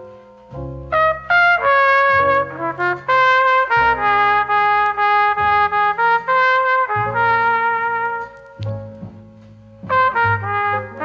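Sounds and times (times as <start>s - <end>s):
brass instrument melody: 0.0s - 11.0s
low accompaniment: 0.0s - 11.0s.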